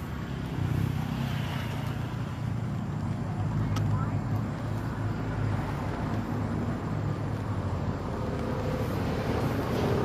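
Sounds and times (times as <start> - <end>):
road noise: 0.0 - 10.0
road vehicle engine rumble: 0.0 - 10.0.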